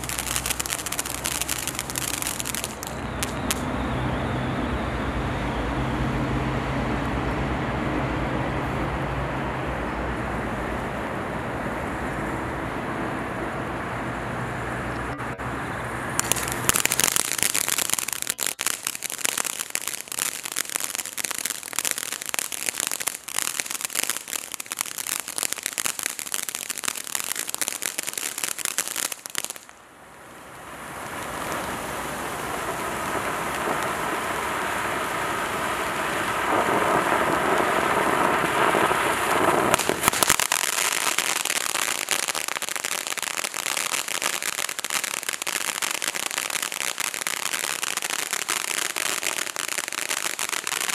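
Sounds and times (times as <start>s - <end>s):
firework sparks hissing: 0.0s - 6.2s, 16.0s - 50.9s
firework crackling: 0.0s - 7.6s, 14.6s - 50.9s.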